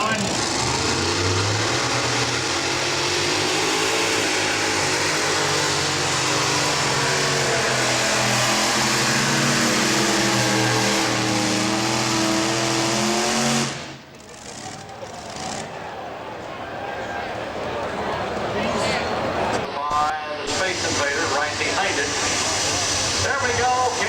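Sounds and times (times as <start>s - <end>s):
tractor engine at full power: 0.0s - 16.6s, 17.8s - 24.0s.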